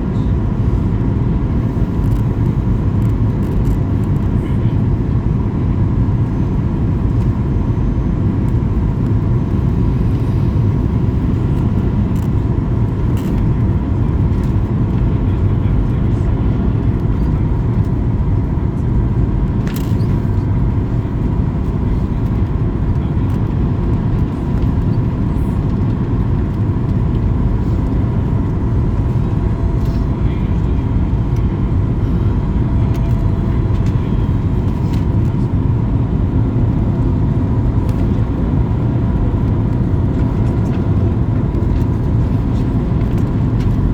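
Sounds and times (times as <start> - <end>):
aircraft cabin engine drone: 0.0 - 43.9
constant hum-like tone: 0.0 - 43.9.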